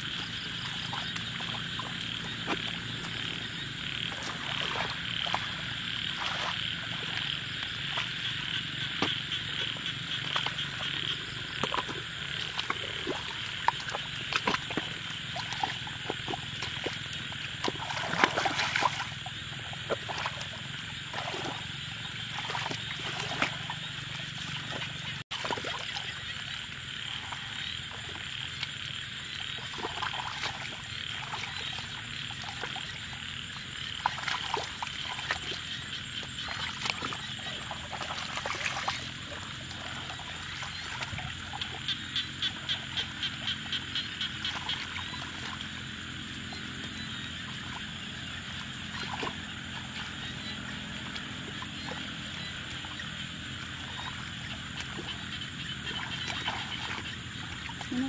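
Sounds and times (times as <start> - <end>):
frogs calling in chorus: 0.0 - 58.0
splashing of muddy water: 0.0 - 58.0.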